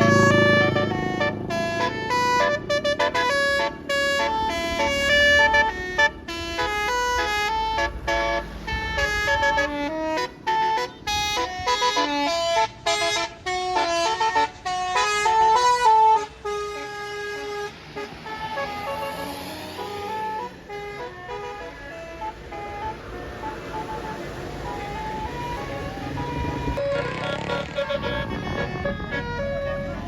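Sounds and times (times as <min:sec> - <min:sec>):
multi-tone bus horn melody: 0:00.0 - 0:30.0.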